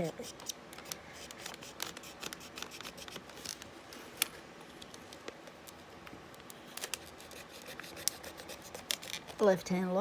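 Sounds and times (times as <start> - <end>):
plastic packaging clicks and scrapes: 0.4 - 9.5.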